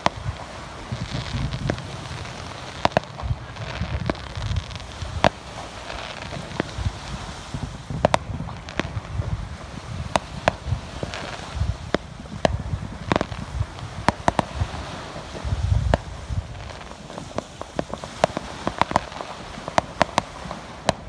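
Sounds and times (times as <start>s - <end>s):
fireworks popping and cracking: 0.0s - 21.0s.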